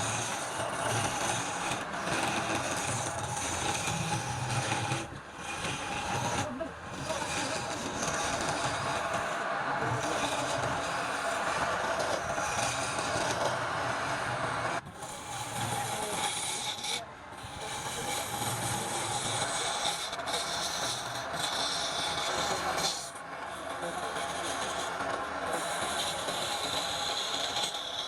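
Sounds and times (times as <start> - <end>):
hand tool scraping wood on lathe: 0.0 - 28.0.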